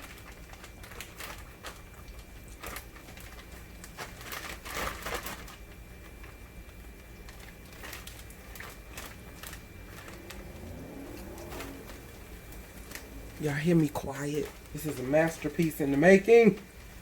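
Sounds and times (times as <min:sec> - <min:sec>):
battered food frying in oil: 0:00.0 - 0:17.0.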